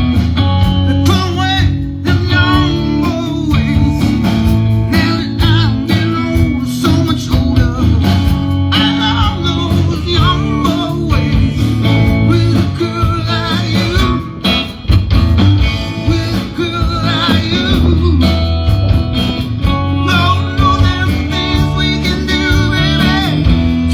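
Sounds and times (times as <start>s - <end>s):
live band music: 0.0s - 23.9s.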